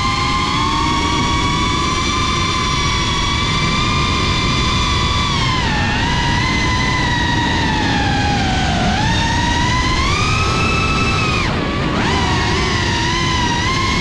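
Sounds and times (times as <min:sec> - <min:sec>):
drone propellers whining: 0:00.0 - 0:14.0
wind and prop wash rushing: 0:00.0 - 0:14.0.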